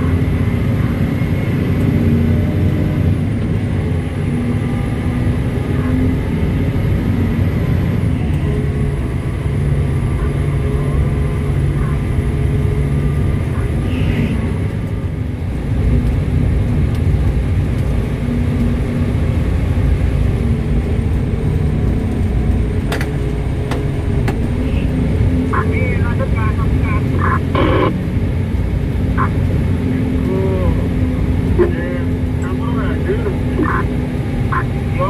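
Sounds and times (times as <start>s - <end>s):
diesel engine drone in cab: 0.0s - 35.0s.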